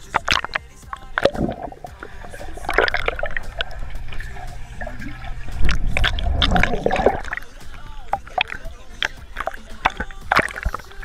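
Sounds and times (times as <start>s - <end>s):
clicks and pops: 0.0s - 11.0s
muffled underwater churning: 0.0s - 11.0s.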